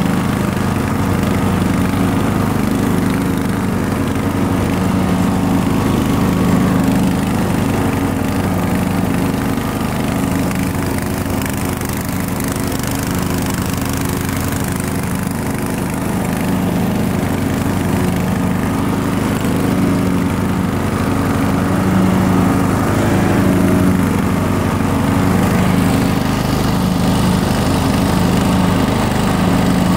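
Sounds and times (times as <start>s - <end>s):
riding mower engine droning: 0.0s - 29.9s.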